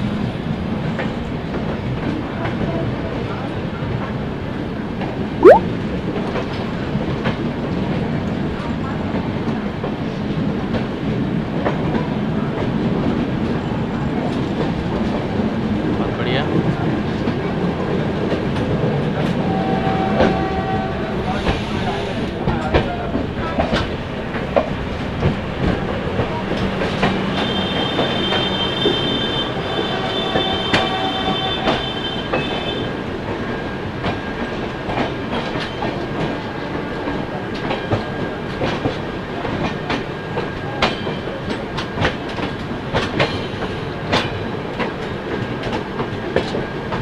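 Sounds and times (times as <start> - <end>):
train coaches rumbling: 6.7 - 47.0.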